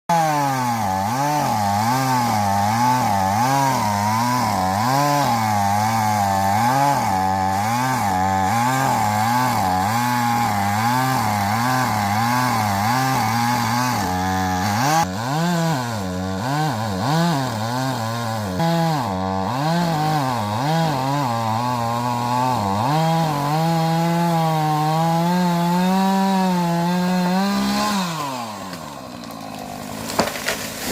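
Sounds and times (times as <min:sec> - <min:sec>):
chainsaw cutting wood: 0:00.1 - 0:30.9.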